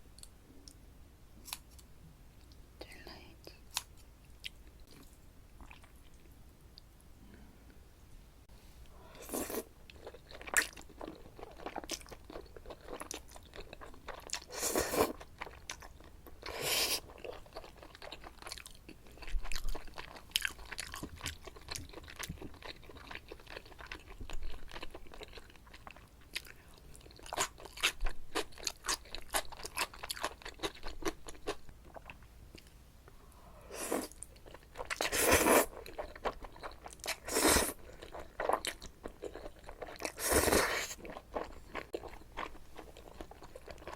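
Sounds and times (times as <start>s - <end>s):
person chewing with wet clicks: 3.7s - 6.9s, 9.9s - 14.5s, 15.1s - 32.7s, 34.0s - 43.9s.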